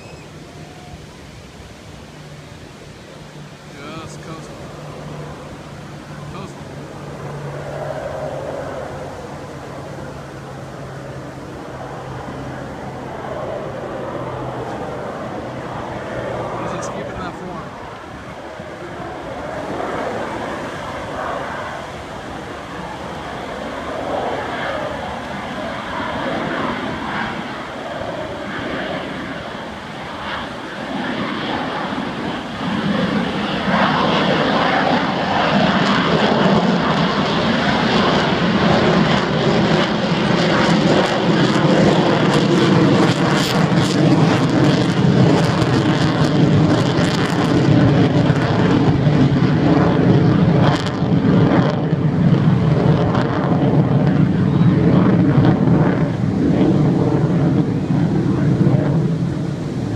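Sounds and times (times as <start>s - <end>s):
airplane engine running: 0.0s - 59.9s.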